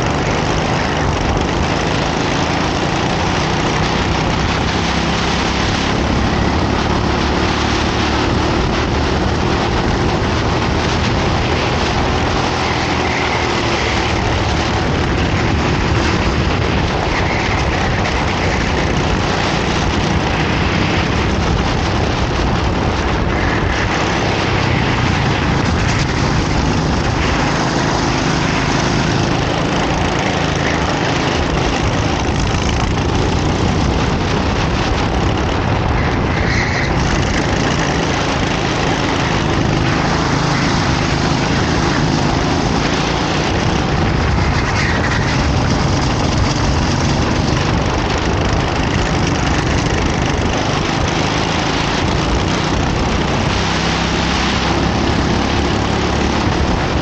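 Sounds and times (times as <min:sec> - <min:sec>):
kart engine running: 0:00.0 - 0:57.0
rush of noise: 0:00.0 - 0:57.0.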